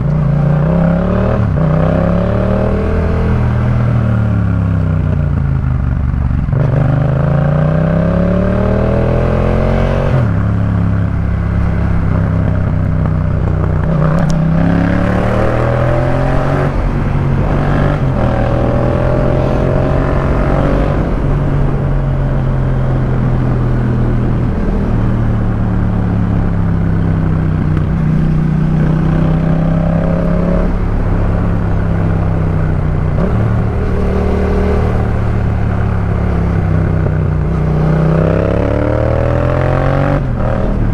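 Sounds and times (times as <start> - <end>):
motorcycle engine exhaust accelerating: 0.0 - 40.9.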